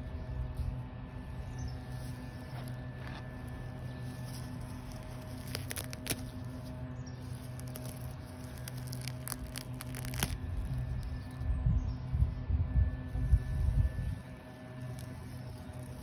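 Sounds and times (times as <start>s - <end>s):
steady low hum: 0.0s - 16.0s
weeds tearing out of grass: 0.5s - 11.5s, 13.1s - 16.0s.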